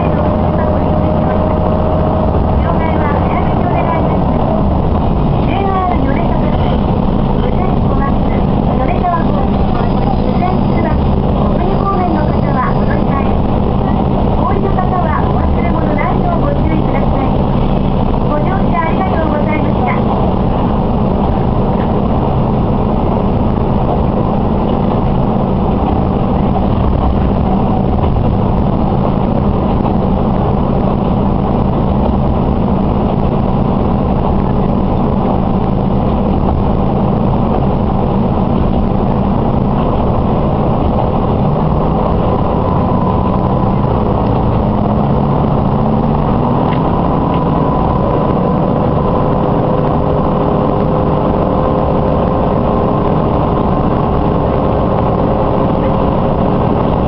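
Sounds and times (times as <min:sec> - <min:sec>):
faint rising whine: 0:00.0 - 0:57.0
railcar engine drone: 0:00.0 - 0:57.0
wheels rumbling on rails: 0:00.0 - 0:57.0.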